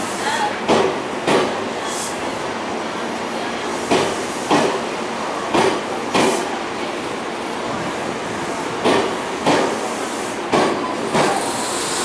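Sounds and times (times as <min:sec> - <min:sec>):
electric train running rumble: 0:00.0 - 0:12.0.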